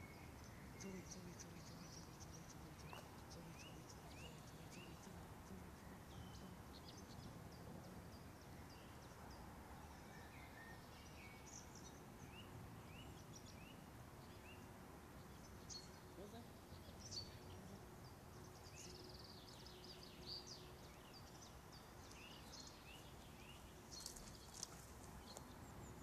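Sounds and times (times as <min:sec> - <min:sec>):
low steady background noise: 0:00.0 - 0:26.0.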